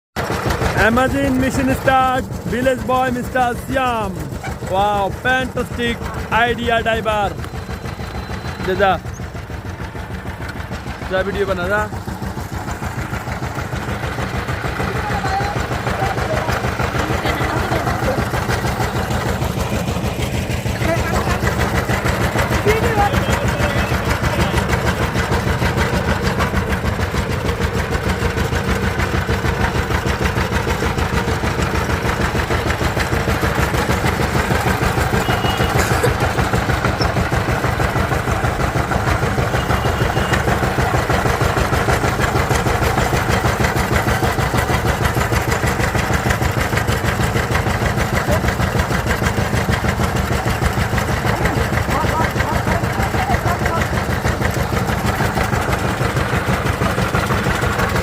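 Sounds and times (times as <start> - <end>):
diesel engine running: 0.2 - 58.0.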